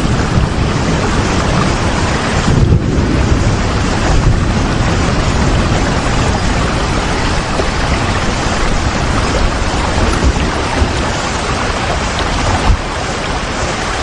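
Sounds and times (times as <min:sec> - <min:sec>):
deep rumble: 0:00.0 - 0:14.0
steady rain: 0:00.0 - 0:14.0.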